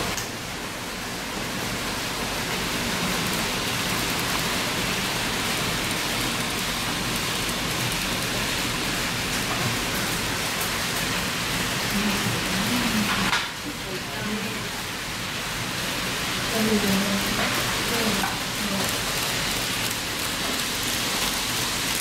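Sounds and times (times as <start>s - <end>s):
model trains whirring on rails: 0.0s - 22.0s.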